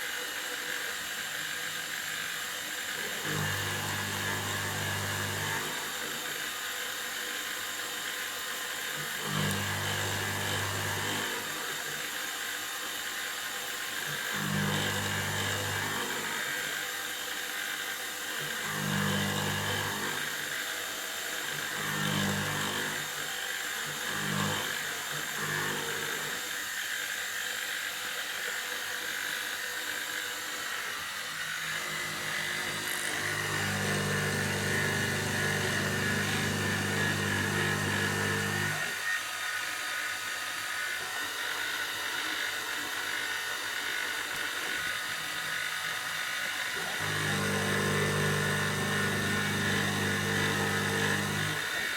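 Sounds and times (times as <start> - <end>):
milling spindle whine with cutting hiss: 0.0 - 51.9.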